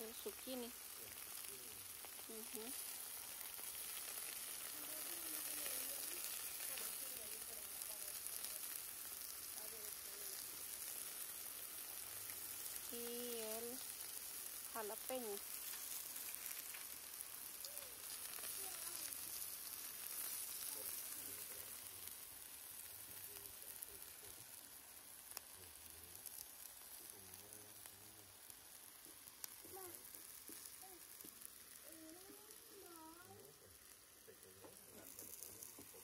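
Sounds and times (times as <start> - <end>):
food sizzling on a griddle: 0.0 - 36.0.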